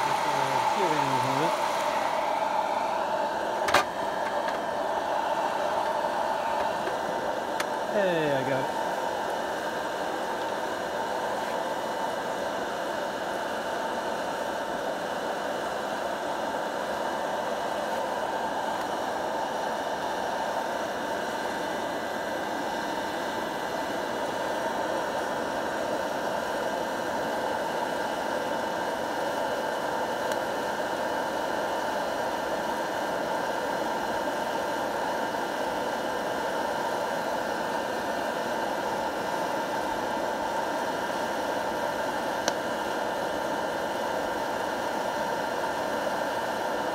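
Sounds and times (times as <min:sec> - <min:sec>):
coffee roaster blower: 0:00.0 - 0:46.9.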